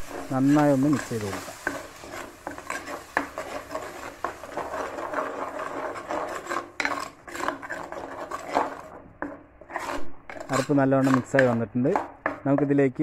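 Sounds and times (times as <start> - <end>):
spatula scraping paste in clay pot: 0.0 - 13.0.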